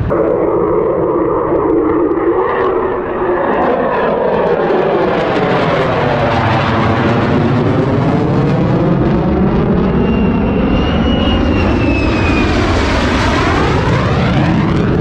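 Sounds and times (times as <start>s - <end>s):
fighter jet passing by: 0.0s - 15.0s.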